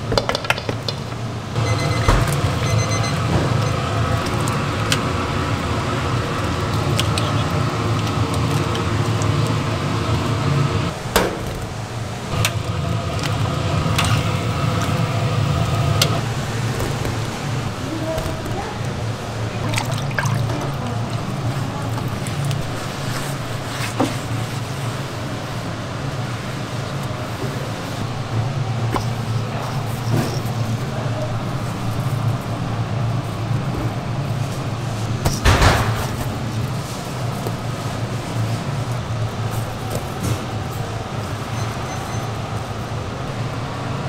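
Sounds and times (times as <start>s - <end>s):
kitchen equipment humming: 0.0s - 44.0s.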